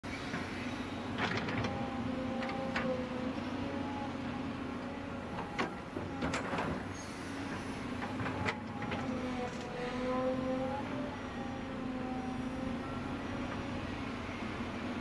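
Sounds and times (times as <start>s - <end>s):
excavator diesel engine whining: 0.1s - 15.0s.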